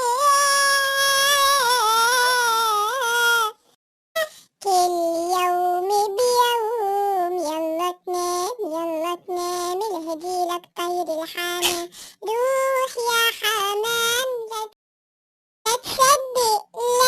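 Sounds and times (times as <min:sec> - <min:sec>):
child-like voice singing: 0:00.0 - 0:03.6, 0:04.2 - 0:14.8, 0:15.7 - 0:17.0.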